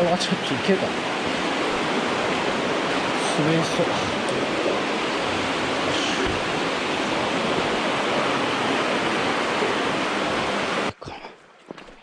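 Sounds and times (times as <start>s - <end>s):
rushing stream rapids: 0.0s - 10.9s.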